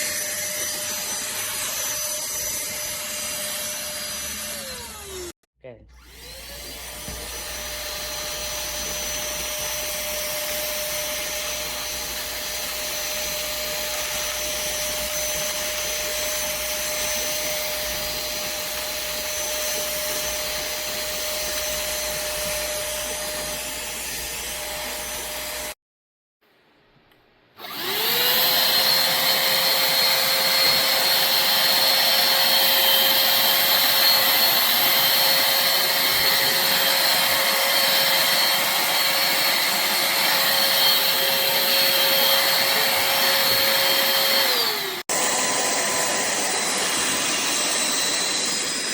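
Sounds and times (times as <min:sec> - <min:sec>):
handheld vacuum cleaner whining: 0:00.0 - 0:25.8, 0:27.6 - 0:48.9.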